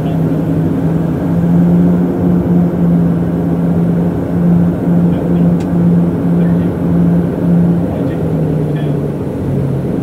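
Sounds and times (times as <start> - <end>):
propeller aircraft cabin drone: 0.0 - 10.0.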